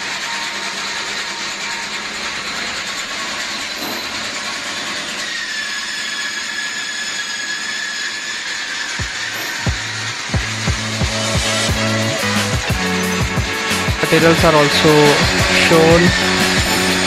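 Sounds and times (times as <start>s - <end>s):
lathe mechanical clatter: 0.0s - 17.0s
thin high whine: 0.0s - 17.0s.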